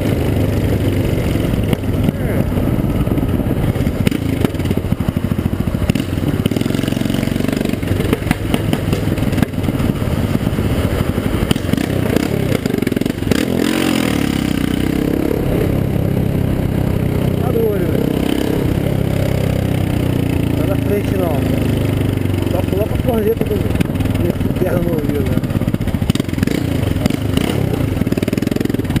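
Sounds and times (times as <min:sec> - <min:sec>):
loud motorcycle engine running: 0:00.0 - 0:29.0.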